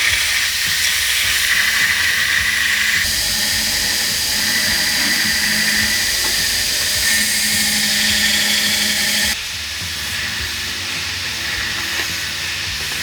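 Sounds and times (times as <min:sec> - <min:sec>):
power tool whining on steel: 0:00.0 - 0:13.0.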